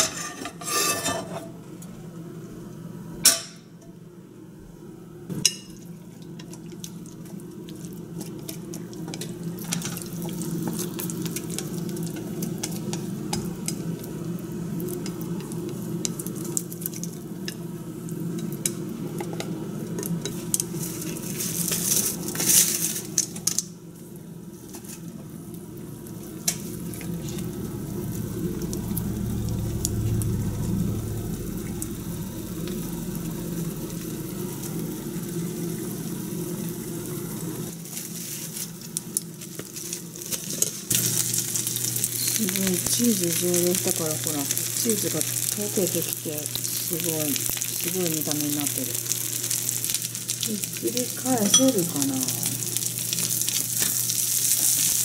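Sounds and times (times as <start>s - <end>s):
batter sizzling in pan: 0.0s - 3.8s, 5.3s - 55.0s.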